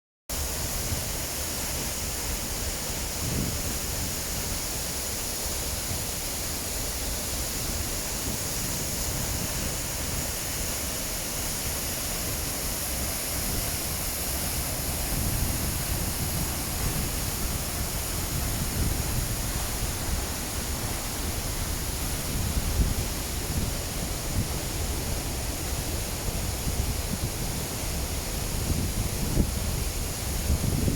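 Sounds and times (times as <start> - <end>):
waterfall roaring: 0.3 - 30.9.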